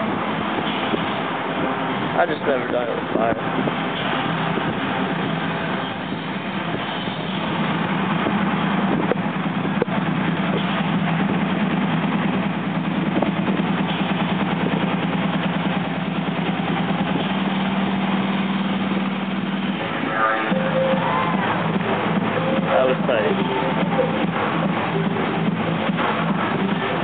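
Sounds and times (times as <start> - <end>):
engine-like drone: 0.0 - 27.0.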